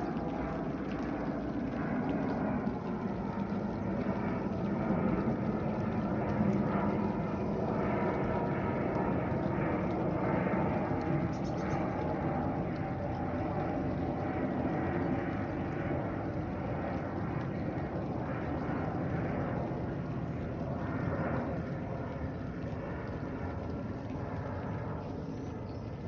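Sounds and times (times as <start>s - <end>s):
airplane passing overhead: 0.0s - 26.0s.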